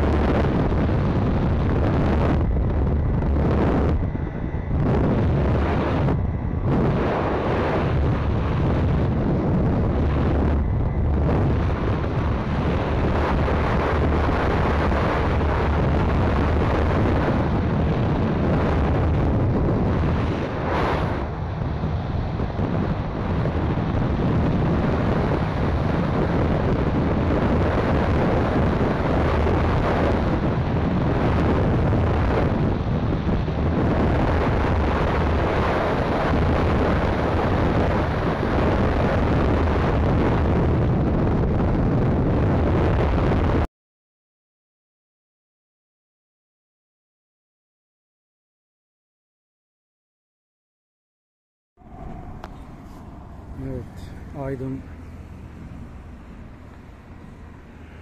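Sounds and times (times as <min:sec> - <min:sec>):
wind buffeting microphone: 0:00.0 - 0:43.7, 0:51.8 - 0:58.0.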